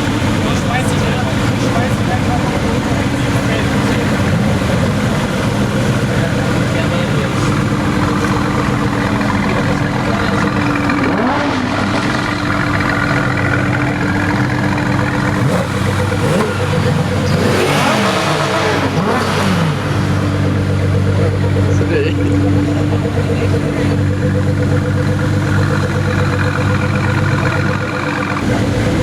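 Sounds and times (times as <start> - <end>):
car engine idling: 0.0 - 29.0
engine revving: 0.0 - 29.0.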